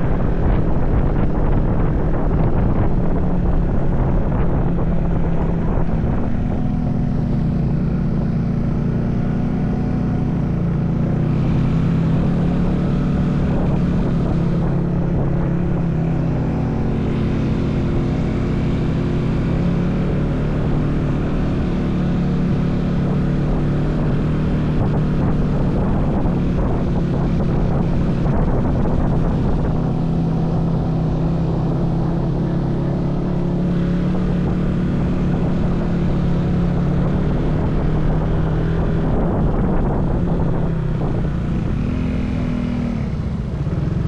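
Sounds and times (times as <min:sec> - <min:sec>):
vehicle engine low hum: 0:00.0 - 0:44.0.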